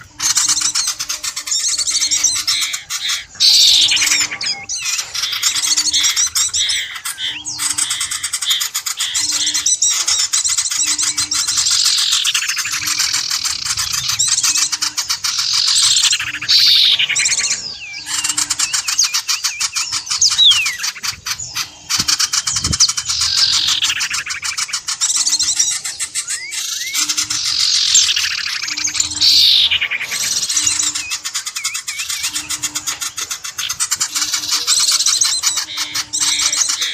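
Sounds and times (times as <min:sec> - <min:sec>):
fast descending bird calls: 0:00.0 - 0:36.9
small birds chirping and twittering: 0:00.0 - 0:36.9.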